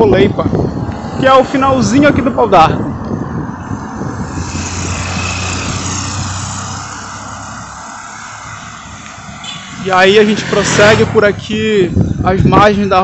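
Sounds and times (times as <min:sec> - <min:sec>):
car passing by: 0:00.5 - 0:11.5.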